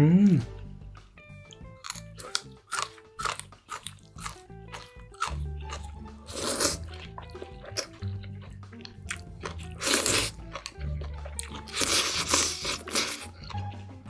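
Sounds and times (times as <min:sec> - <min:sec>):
background music with bass: 0:00.0 - 0:14.0
crunchy chewing of food: 0:01.4 - 0:14.0.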